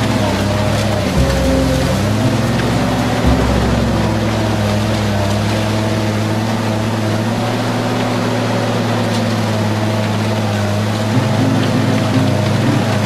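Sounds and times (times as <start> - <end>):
car shredder grinding: 0.0 - 13.0.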